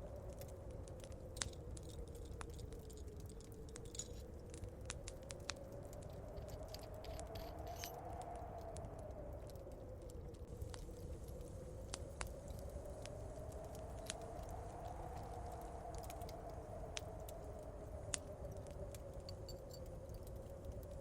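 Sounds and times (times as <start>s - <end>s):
fire crackling and popping: 0.0s - 21.0s
low howling wind: 0.0s - 21.0s.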